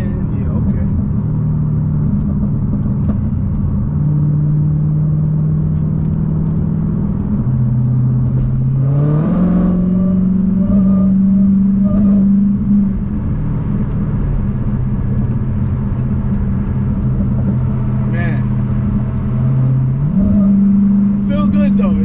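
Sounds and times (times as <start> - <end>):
car engine revving while driven: 0.0 - 22.0.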